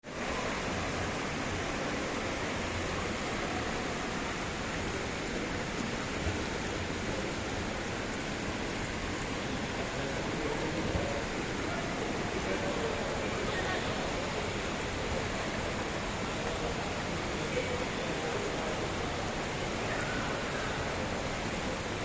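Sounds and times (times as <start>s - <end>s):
water fountain splashing: 0.0s - 22.0s.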